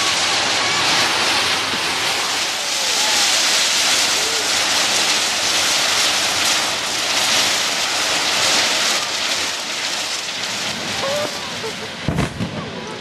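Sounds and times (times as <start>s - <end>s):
swarm of rockets hissing: 0.0s - 13.0s.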